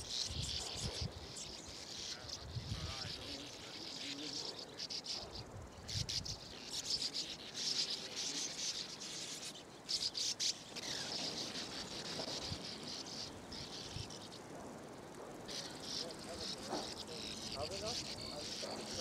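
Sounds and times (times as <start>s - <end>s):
birds twittering: 0.0s - 19.0s.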